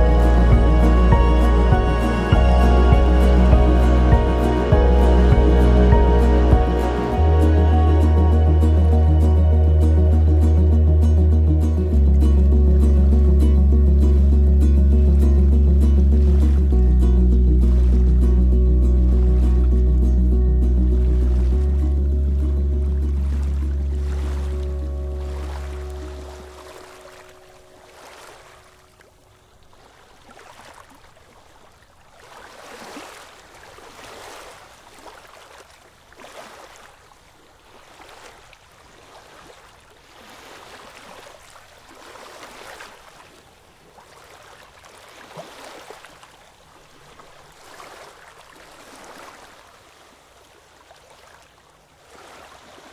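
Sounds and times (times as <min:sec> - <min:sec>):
water washing in gentle waves: 0:00.0 - 0:52.9.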